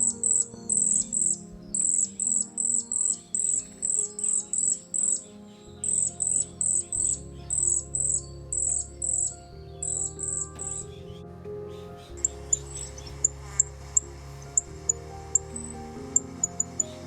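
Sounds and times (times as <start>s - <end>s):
background music with chords: 0.0s - 17.0s.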